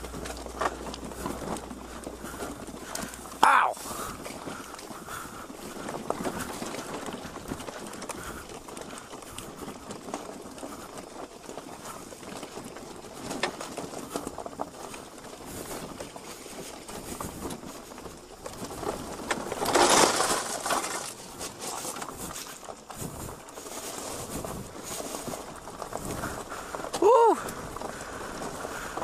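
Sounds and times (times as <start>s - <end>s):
bike rattling over gravel: 0.0s - 29.0s.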